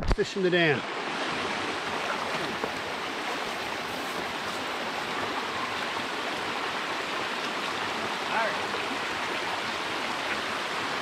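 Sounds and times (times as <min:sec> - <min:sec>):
creek water rushing over sticks: 0:00.0 - 0:11.0.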